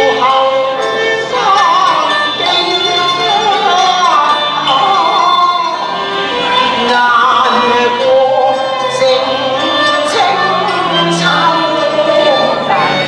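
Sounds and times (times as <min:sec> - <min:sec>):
person singing opera: 0:00.0 - 0:13.0
traditional instrumental ensemble: 0:00.0 - 0:13.0.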